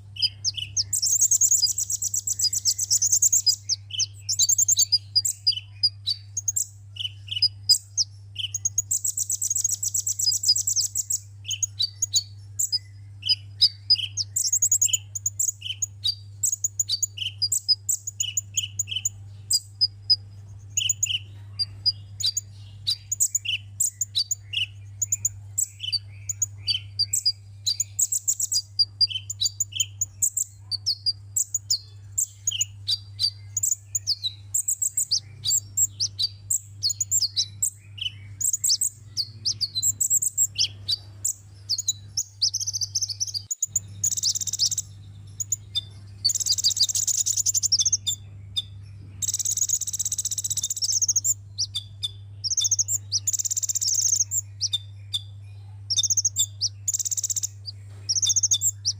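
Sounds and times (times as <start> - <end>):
bird twittering and trilling: 0.0 - 58.9
steady low hum: 0.0 - 58.9.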